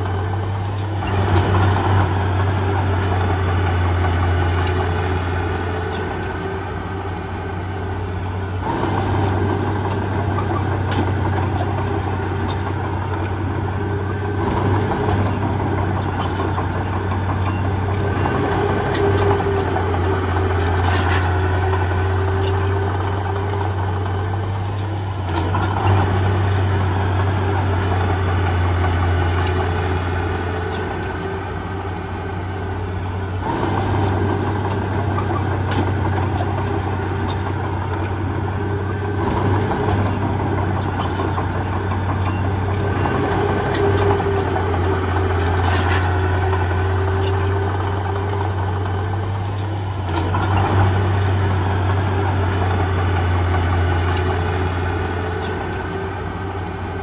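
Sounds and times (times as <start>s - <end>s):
heavy diesel engine humming: 0.0s - 57.0s
metal clanks and clicks: 8.7s - 31.3s, 33.0s - 56.2s.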